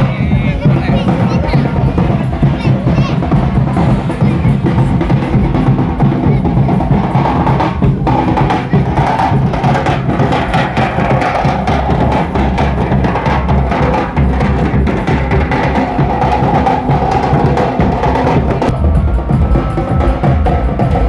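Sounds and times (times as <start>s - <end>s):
barrel drums booming: 0.0s - 21.0s.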